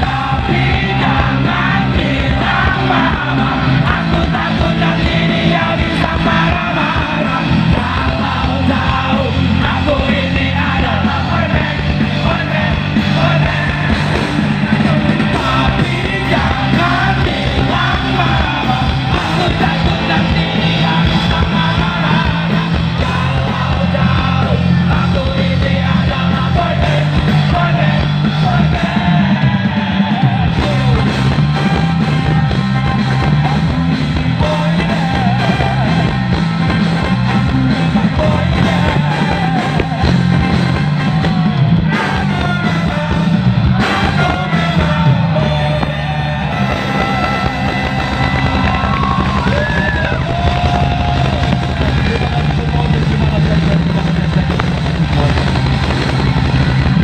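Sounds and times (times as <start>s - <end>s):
lead vocal singing: 0.0s - 57.0s
live ska-punk band: 0.0s - 57.0s.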